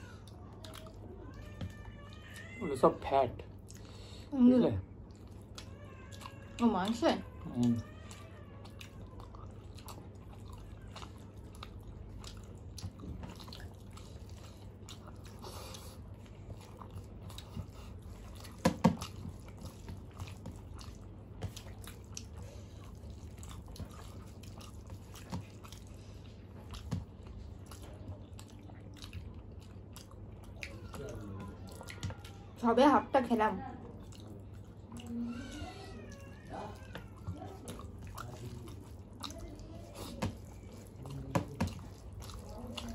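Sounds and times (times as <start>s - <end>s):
people chewing: 0.0s - 42.9s.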